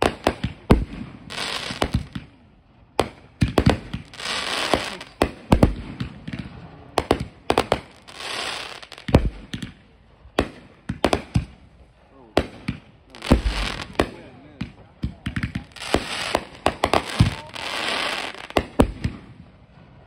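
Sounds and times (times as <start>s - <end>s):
fireworks bangs: 0.0s - 20.0s
fireworks crackling: 0.0s - 20.0s.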